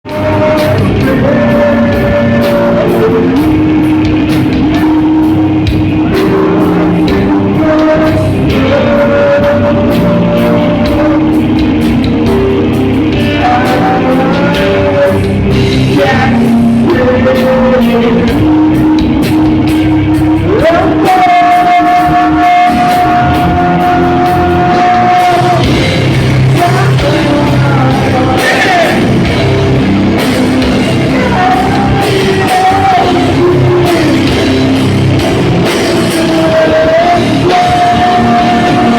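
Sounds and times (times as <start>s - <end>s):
metal band playing: 0.0s - 38.9s
singer's vocals: 0.0s - 38.9s.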